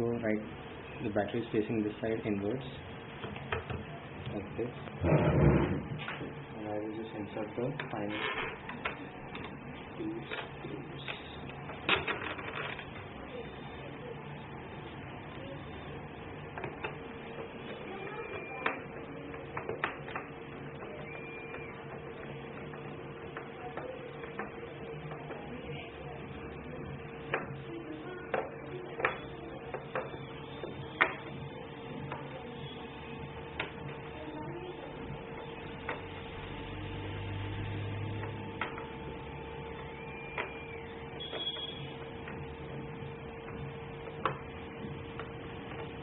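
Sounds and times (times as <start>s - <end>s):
steady mechanical hum: 0.0s - 46.0s.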